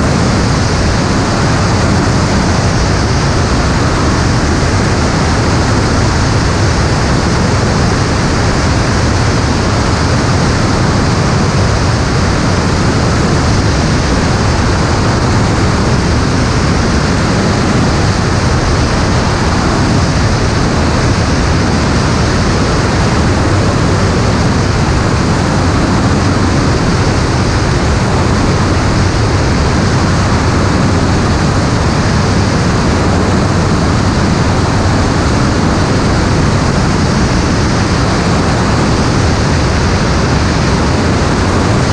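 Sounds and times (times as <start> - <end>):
aircraft engine drone in flight: 0.0 - 41.9.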